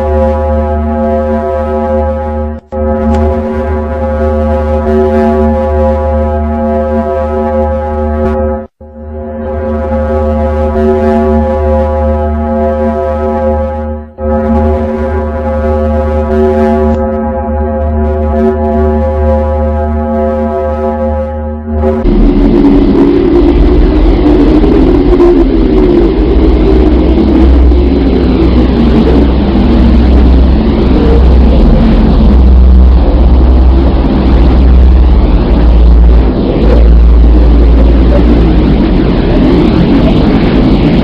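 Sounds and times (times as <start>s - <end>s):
deep churning rumble: 0.0s - 8.6s, 9.6s - 41.0s
steady hum with overtones: 0.0s - 41.0s.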